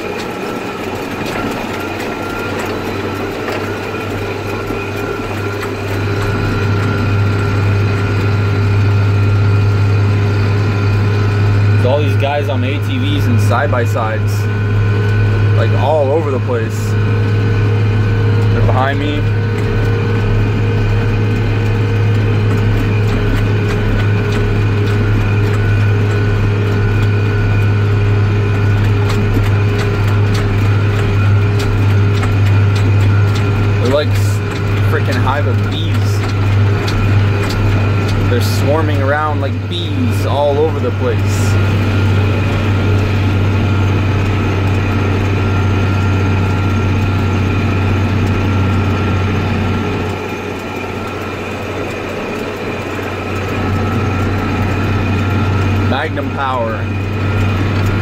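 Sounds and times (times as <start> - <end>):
steady engine whine: 0.0 - 58.0
tractor diesel engine drone: 0.0 - 58.0.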